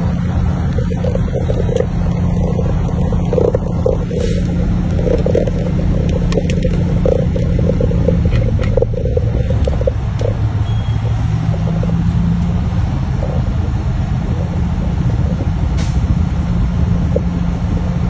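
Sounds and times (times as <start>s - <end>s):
diesel truck engine rumbling: 0.0s - 18.0s.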